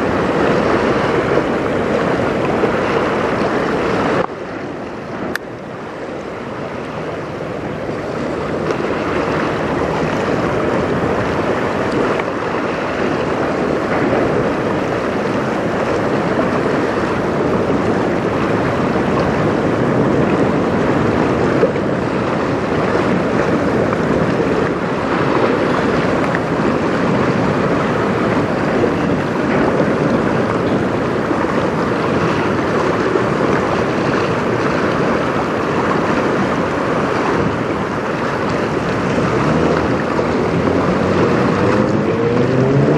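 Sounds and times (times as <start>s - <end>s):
choppy river water: 0.0s - 42.9s
wind on microphone: 0.0s - 42.9s.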